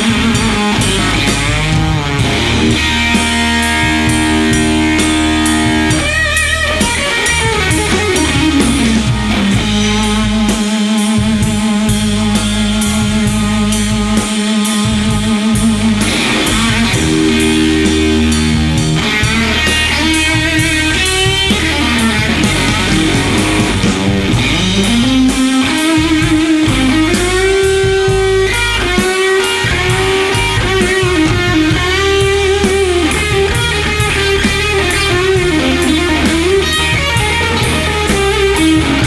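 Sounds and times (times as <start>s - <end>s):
bass: 0.0s - 39.0s
drums keeping a steady beat: 0.0s - 39.0s
electric guitar lead: 0.0s - 39.0s.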